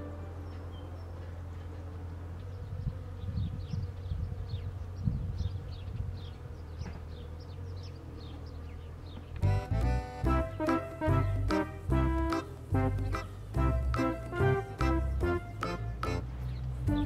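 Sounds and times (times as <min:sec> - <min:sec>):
bee buzzing: 0:00.0 - 0:17.0.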